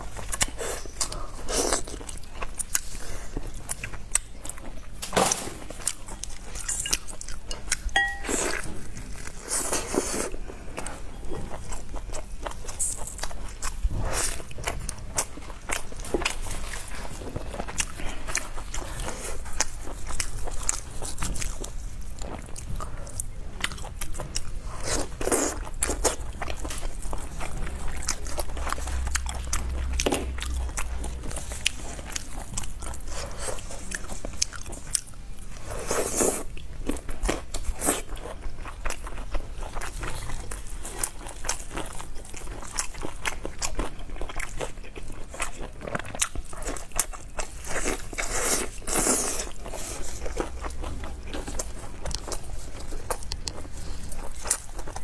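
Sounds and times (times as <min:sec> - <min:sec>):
biting and chewing meat: 0:00.0 - 0:55.0.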